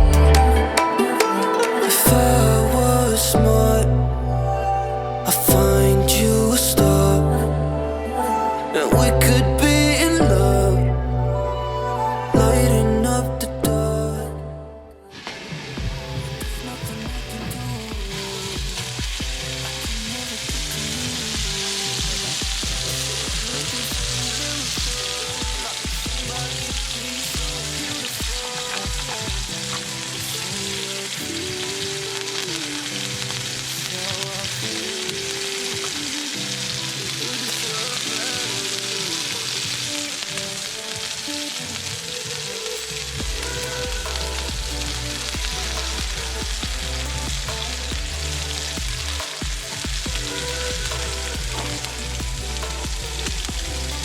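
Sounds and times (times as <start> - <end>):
background music: 0.0 - 54.0.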